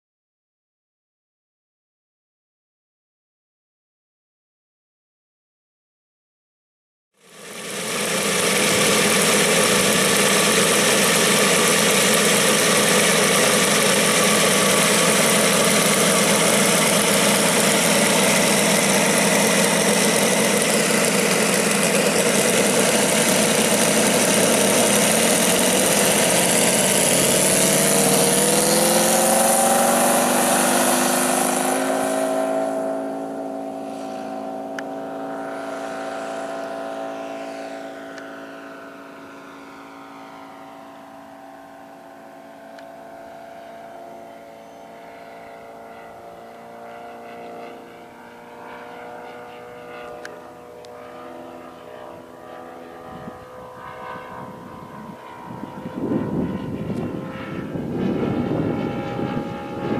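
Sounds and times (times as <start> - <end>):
model plane engine running: 7.2 - 59.9.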